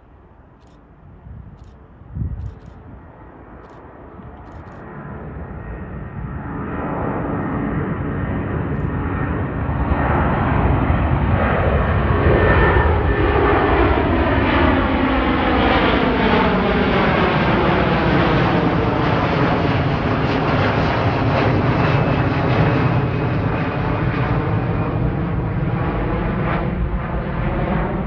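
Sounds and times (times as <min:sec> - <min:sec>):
jet engines roaring: 0:02.8 - 0:28.0.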